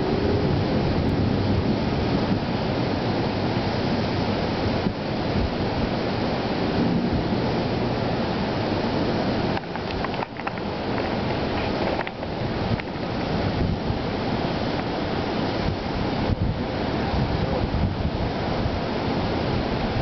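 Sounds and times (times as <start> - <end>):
heavy rain: 0.0 - 20.0
wind rushing: 0.0 - 20.0.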